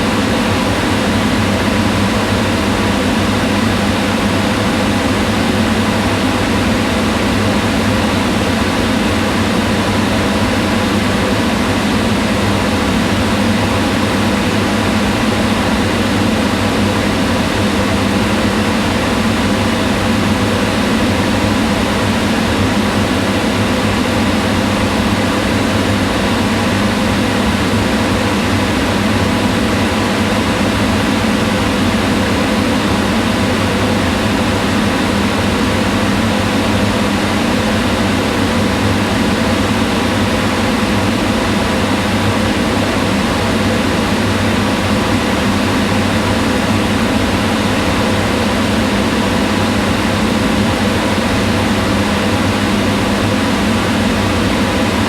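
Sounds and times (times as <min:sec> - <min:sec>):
range hood fan whirring: 0:00.0 - 0:55.0.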